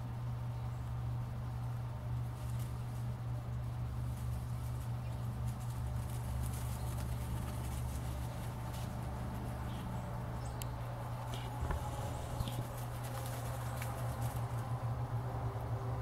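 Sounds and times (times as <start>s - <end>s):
steady low hum: 0.0s - 16.0s
dry leaves rustling and crackling: 2.1s - 15.2s.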